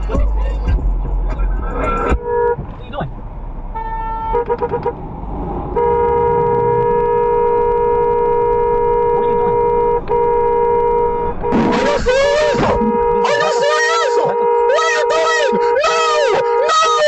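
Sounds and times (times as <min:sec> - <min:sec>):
car horn honking: 0:01.6 - 0:02.7, 0:03.7 - 0:05.0, 0:05.7 - 0:17.0.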